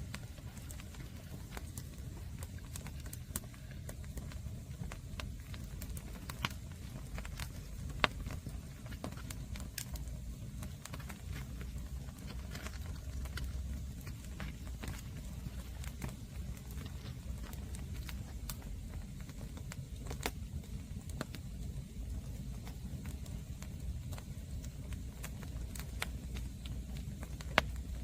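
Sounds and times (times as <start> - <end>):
campfire crackling and popping: 0.0 - 28.0
low steady rumble: 0.0 - 28.0.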